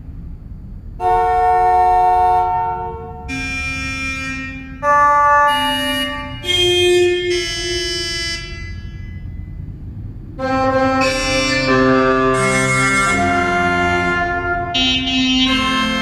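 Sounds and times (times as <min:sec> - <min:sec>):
vintage vehicle horns playing chords: 0:01.0 - 0:09.5, 0:10.3 - 0:16.0.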